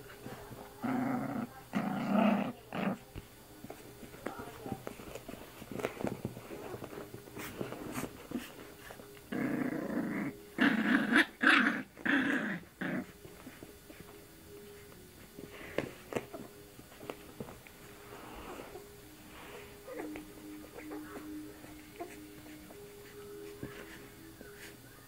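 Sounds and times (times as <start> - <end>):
puppy growling: 0.0 - 14.1, 14.8 - 24.8.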